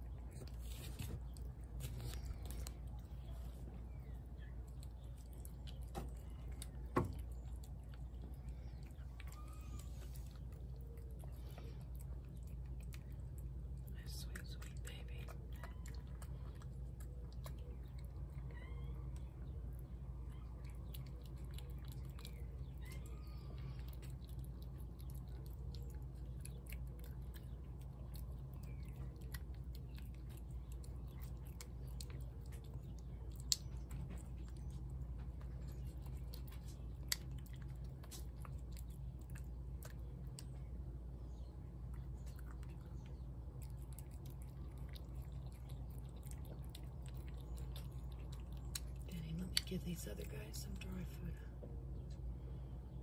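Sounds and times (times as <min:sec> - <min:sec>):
cat chewing wet food: 0:00.0 - 0:50.7
low background hum: 0:00.0 - 0:53.0.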